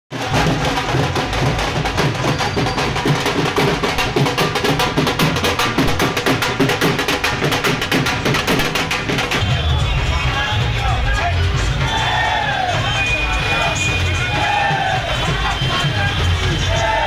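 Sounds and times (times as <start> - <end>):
drums beaten with sticks: 0.1 - 17.0.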